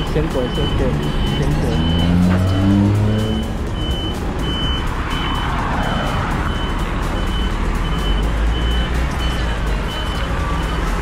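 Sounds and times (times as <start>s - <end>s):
diesel engine running: 0.0s - 11.0s
truck reversing alarm beeping: 0.0s - 11.0s.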